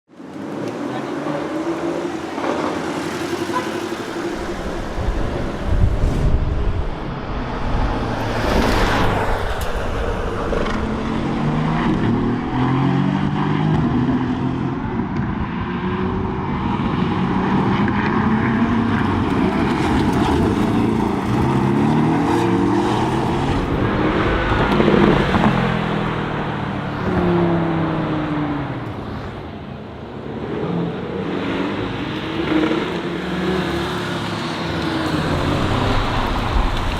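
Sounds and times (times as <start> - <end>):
car engine accelerating: 0.2 - 36.9.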